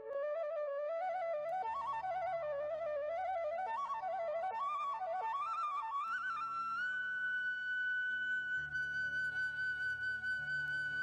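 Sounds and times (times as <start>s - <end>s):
instrumental music: 0.0s - 11.0s.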